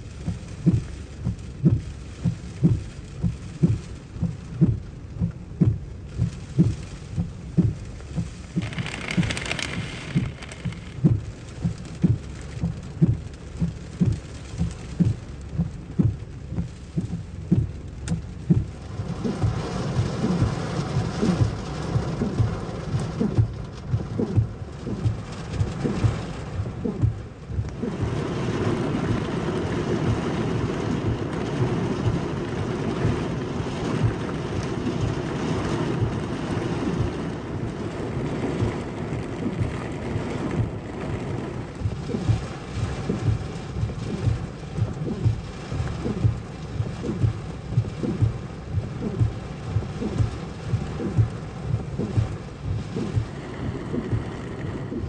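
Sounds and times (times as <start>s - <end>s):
heavy downpour: 0.0s - 55.0s
low thumps: 0.3s - 55.0s.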